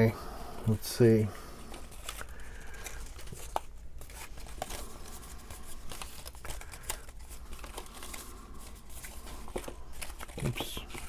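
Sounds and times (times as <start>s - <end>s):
paper rustling on a tabletop: 1.6s - 11.0s.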